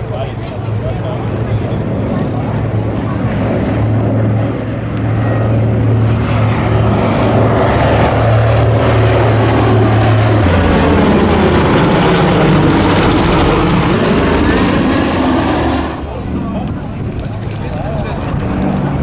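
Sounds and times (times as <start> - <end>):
propeller plane passing overhead: 0.0 - 19.0.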